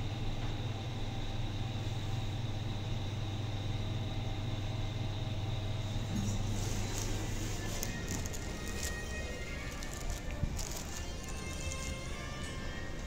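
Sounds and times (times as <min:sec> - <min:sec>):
elevator low hum: 0:00.0 - 0:13.0
faint high whine: 0:00.7 - 0:13.0.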